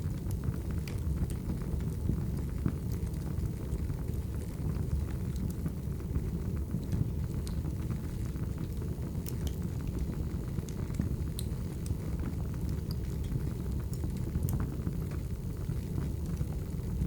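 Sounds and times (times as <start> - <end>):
fire low rumble: 0.0 - 17.0
firewood crackling and popping: 0.0 - 17.0.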